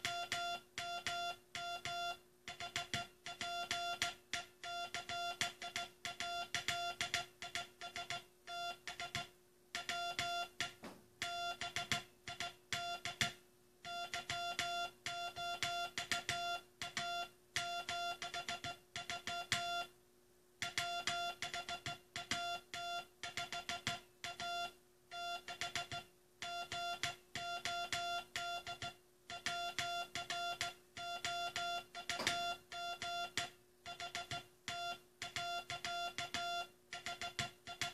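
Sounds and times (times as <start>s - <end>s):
morse code beeps: 0.0s - 13.3s, 13.9s - 19.9s, 20.6s - 37.9s
faint steady hum: 0.0s - 37.9s.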